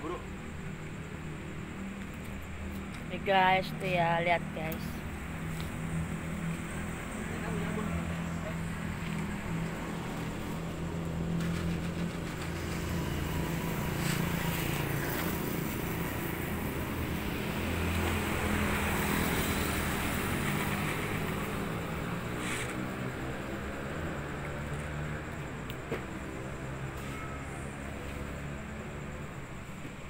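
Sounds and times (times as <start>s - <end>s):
vehicles passing: 0.0s - 30.0s
car engines running: 2.9s - 27.3s.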